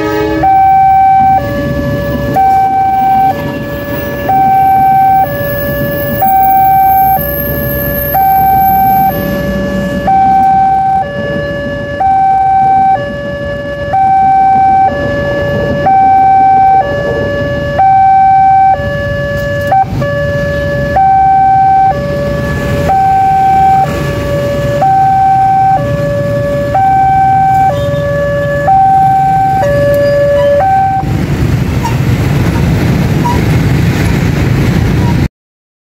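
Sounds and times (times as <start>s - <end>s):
two-tone warning siren: 0.0s - 33.6s
low rumbling noise: 0.0s - 35.3s.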